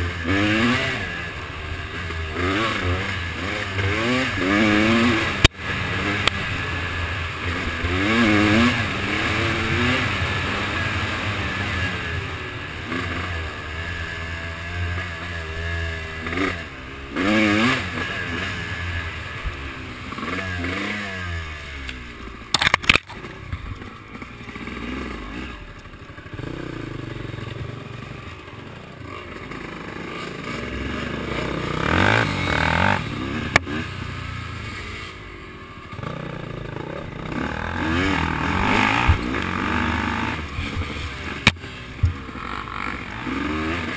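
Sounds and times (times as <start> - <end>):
off-road vehicle engine revving: 0.0 - 23.4, 24.2 - 28.3, 29.0 - 35.2, 35.9 - 43.9.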